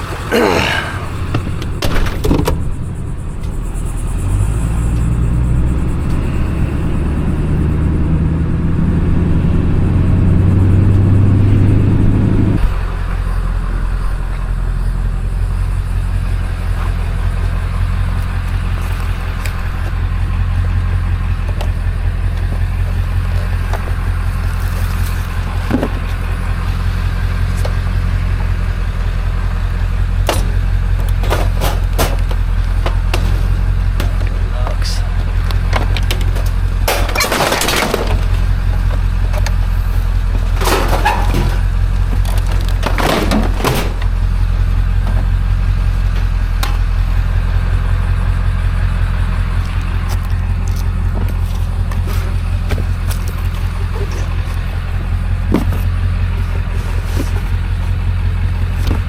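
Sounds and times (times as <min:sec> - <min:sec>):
road noise: 0:00.0 - 0:59.0
vehicle engine running: 0:00.0 - 0:59.0.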